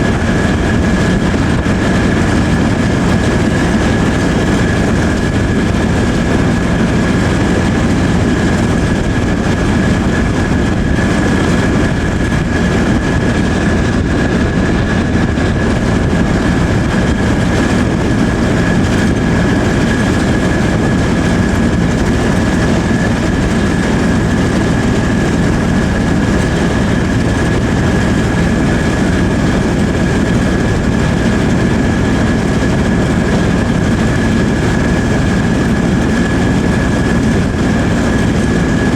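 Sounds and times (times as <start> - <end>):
constant high whine: 0.0 - 38.9
rumble of train wheels and engine: 0.0 - 38.9.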